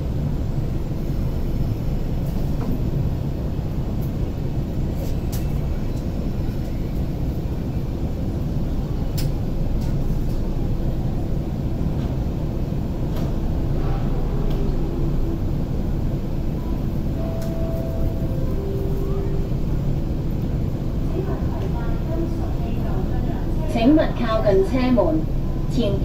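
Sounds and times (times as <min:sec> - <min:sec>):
low hum inside train: 0:00.0 - 0:26.0.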